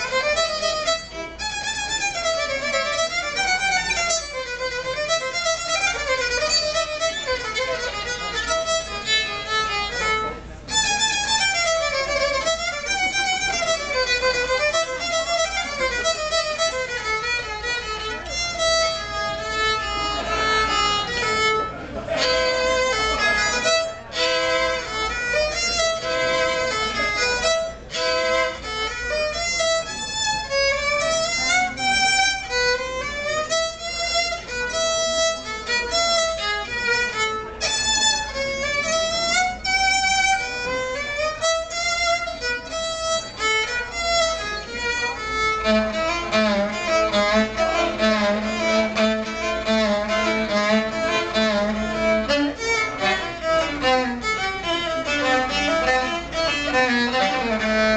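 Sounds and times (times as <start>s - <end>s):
solo violin playing: 0.0s - 57.9s.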